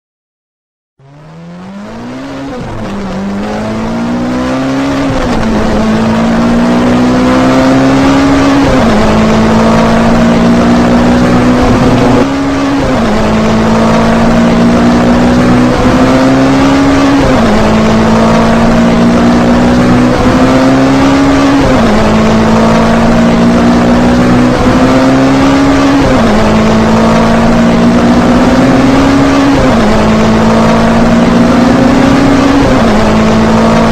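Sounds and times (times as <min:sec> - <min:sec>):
race car engine accelerating: 0:01.0 - 0:33.9.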